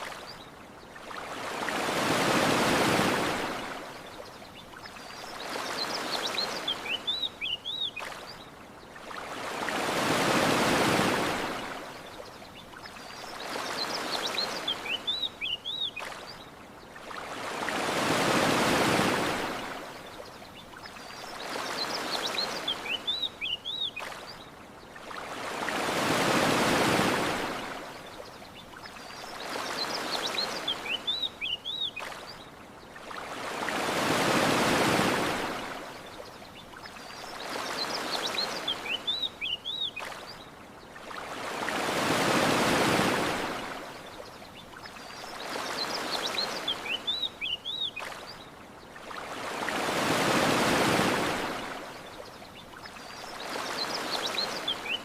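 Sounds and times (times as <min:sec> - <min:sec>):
ocean waves washing up beach: 0:00.0 - 0:55.0.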